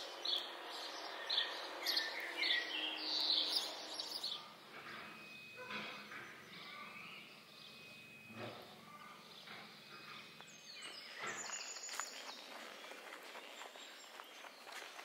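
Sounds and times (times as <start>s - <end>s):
bird chirps: 0.0s - 15.0s
faint outdoor ambience: 0.0s - 15.0s.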